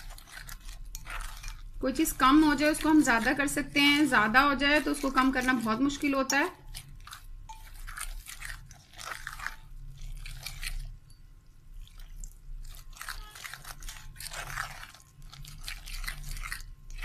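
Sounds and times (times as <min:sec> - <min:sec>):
spoon stirring thick batter: 0:00.0 - 0:17.0.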